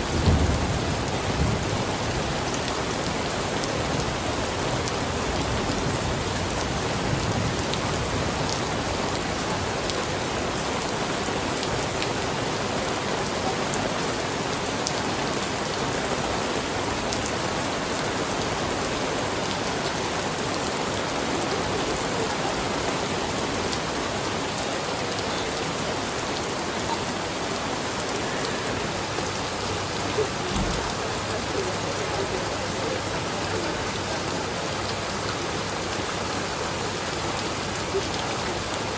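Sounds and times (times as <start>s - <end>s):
rain pattering on hard surfaces: 0.0s - 38.9s.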